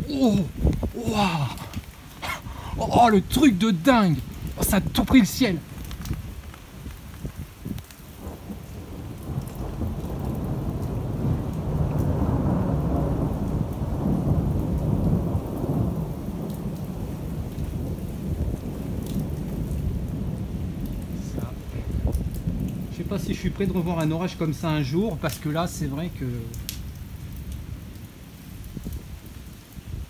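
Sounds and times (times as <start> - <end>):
long rolling thunder: 0.0 - 30.0
rain falling: 0.0 - 30.0.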